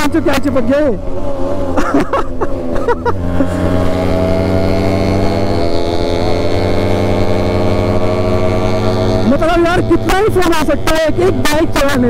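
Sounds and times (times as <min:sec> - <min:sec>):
two-stroke motorcycle engine: 0:00.0 - 0:12.0.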